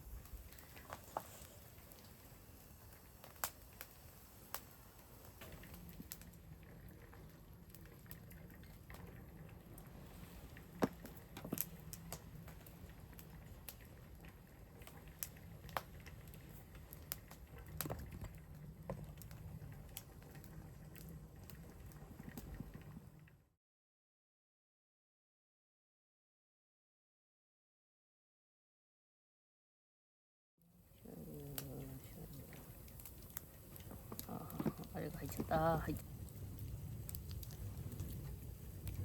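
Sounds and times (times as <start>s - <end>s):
faint steady hiss: 0.0s - 23.2s, 30.7s - 39.0s
wood fire crackling and popping: 0.0s - 23.5s, 30.9s - 39.0s.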